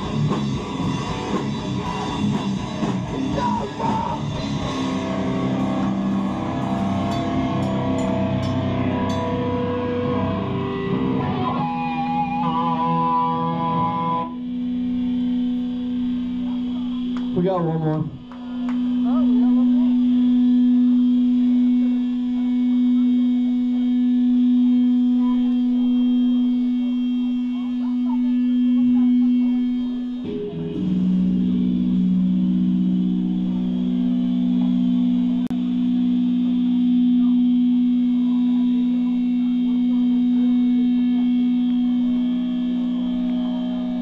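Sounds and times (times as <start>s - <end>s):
guitar amplifier drone: 0.0s - 44.0s
low held tone: 0.0s - 44.0s.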